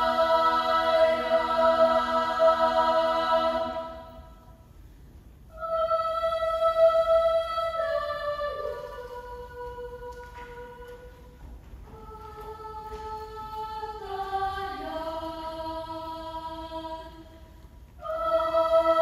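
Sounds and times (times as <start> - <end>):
children's choir singing a cappella: 0.0 - 19.0.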